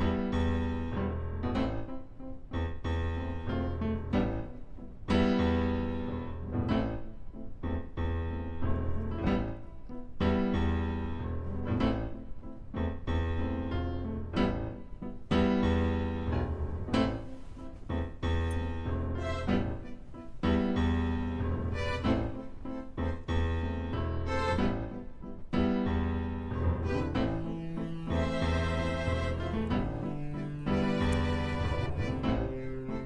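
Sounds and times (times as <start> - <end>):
piano chords ringing: 0.0 - 33.0.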